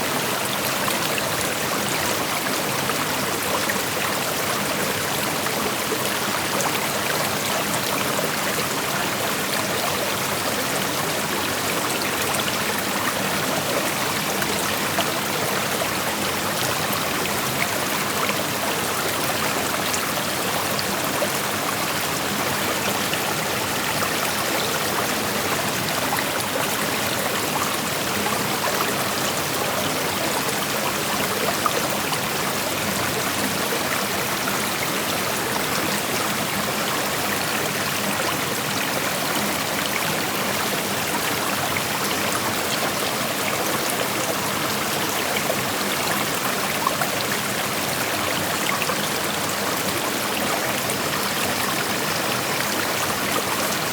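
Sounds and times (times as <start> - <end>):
creek flowing over stones: 0.0 - 53.9
water splashes and trickles: 0.0 - 53.9.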